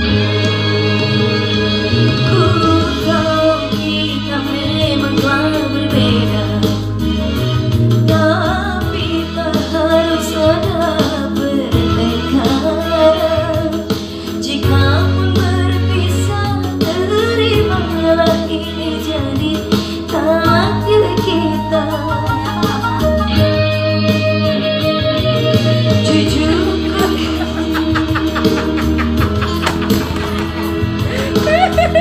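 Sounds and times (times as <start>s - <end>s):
instrumental backing music: 0.0s - 32.0s
woman singing into microphone: 1.9s - 7.3s, 7.9s - 23.0s, 25.9s - 32.0s.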